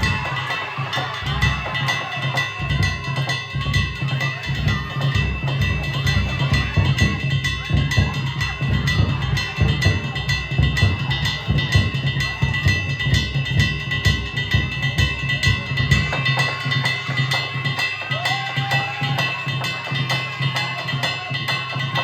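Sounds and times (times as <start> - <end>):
metal gongs ringing: 0.0 - 22.0
taiko drums beating: 0.0 - 22.0.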